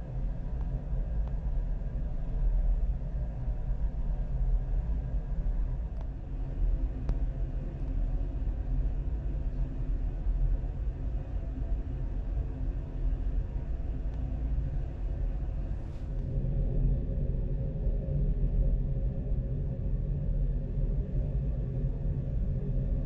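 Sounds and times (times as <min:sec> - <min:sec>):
faint hum: 0:00.0 - 0:23.0
low rumble: 0:00.0 - 0:23.0.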